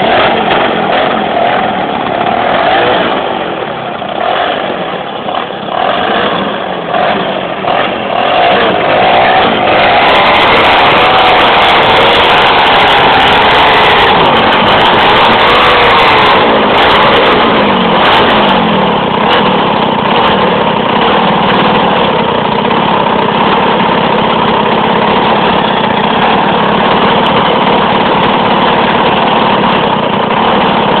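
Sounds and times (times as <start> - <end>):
two-stroke engine revving and idling: 0.0 - 31.0.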